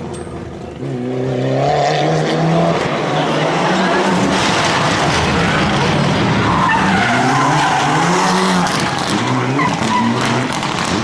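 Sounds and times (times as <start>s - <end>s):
rally car engine revving: 0.0s - 11.0s
tyres skidding: 0.0s - 11.0s.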